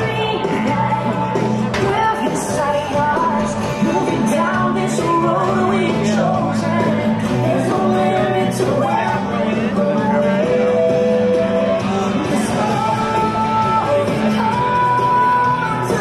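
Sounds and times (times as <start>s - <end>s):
music with singing: 0.0s - 16.0s.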